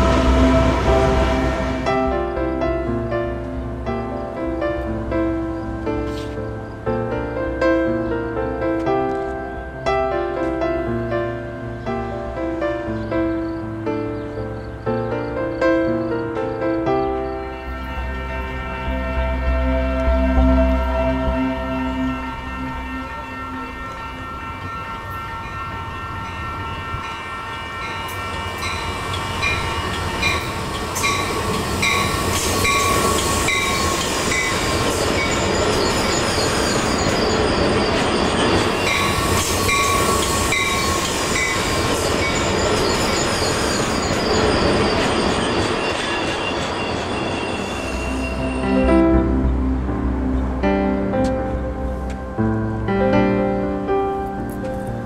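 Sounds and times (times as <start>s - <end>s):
train rumbling on rails: 0.0s - 55.0s.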